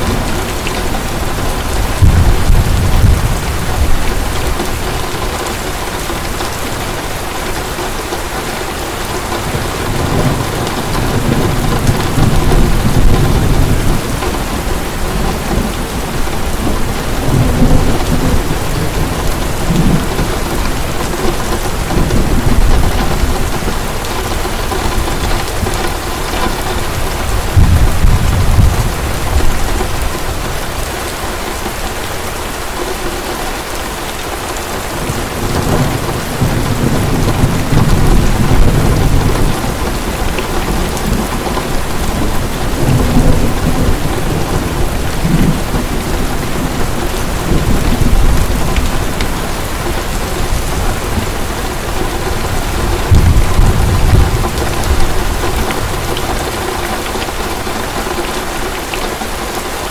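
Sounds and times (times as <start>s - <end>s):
thunder rolling: 0.0s - 6.3s, 9.2s - 30.8s, 35.0s - 57.8s
heavy rain: 0.0s - 59.9s.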